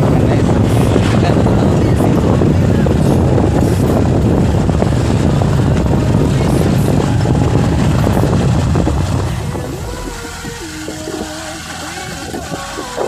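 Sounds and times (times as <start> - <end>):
road and engine rumble: 0.0 - 13.0
wind buffeting microphone: 0.0 - 13.0.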